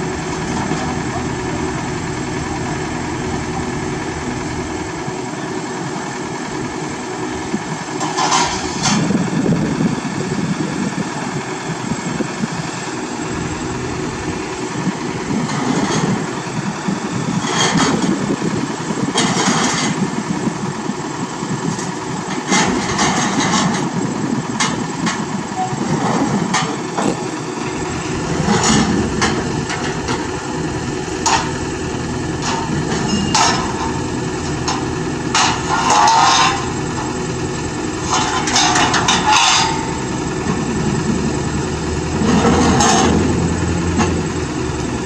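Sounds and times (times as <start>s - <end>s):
excavator diesel engine: 0.0s - 45.0s.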